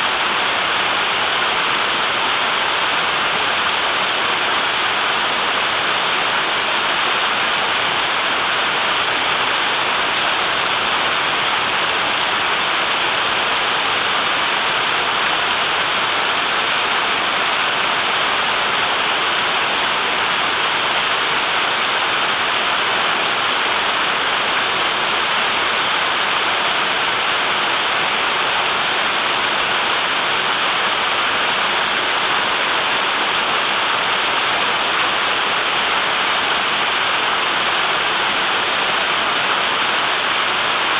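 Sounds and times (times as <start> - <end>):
small waterfall rushing: 0.0 - 40.9.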